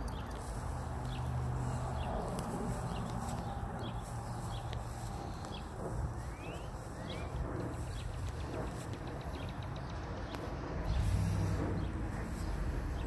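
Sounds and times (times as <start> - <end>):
low rumble: 0.7 - 13.0.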